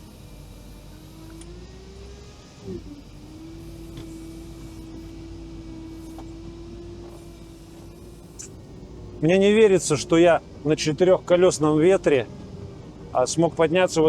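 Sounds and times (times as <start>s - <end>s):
all-terrain vehicle engine running: 0.0s - 14.0s.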